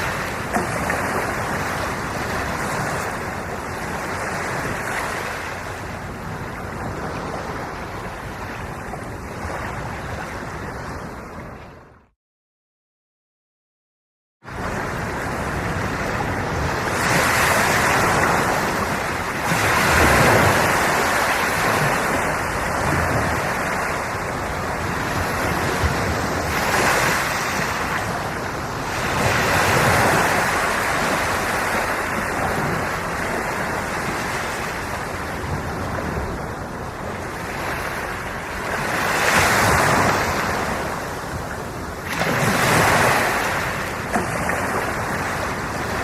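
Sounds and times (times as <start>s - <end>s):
sea waves breaking: 0.0s - 12.0s, 14.5s - 46.0s.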